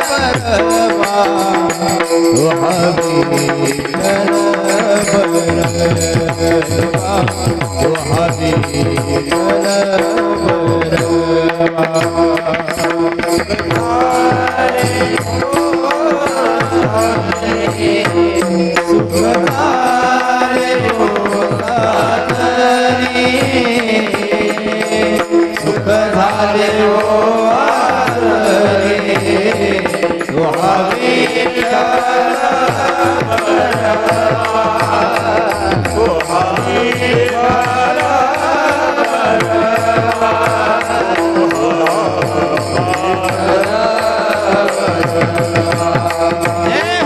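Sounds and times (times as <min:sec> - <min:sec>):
hand drum beats: 0:00.0 - 0:47.0.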